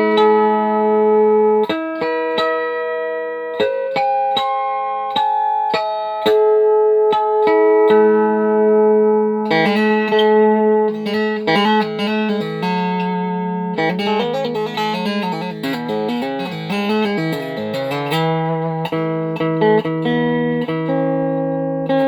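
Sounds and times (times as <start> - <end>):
fretted string instrument melody: 0.0 - 22.0.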